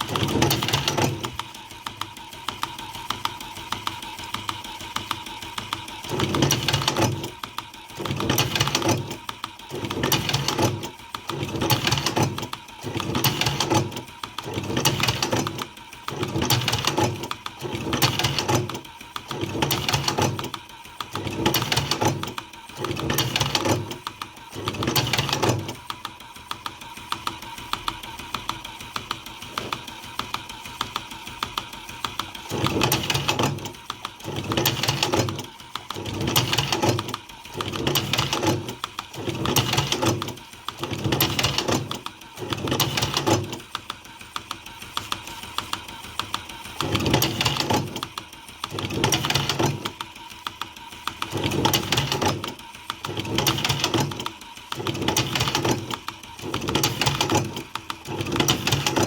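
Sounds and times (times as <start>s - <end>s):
rolling machine cycling: 0.0s - 59.0s.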